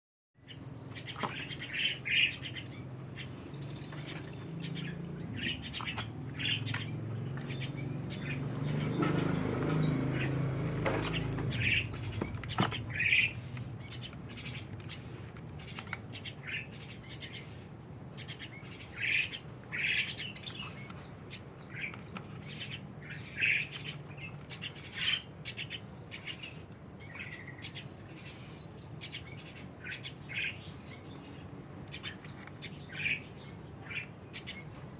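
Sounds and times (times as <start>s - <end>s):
songbird chirping: 0.4s - 34.9s.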